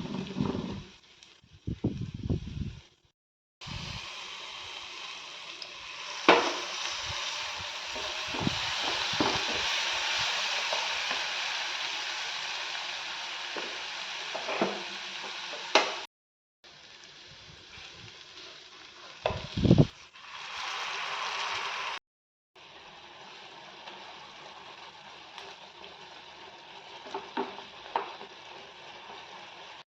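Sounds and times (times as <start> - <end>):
food sizzling in hot oil: 0.0 - 22.0, 22.6 - 29.8.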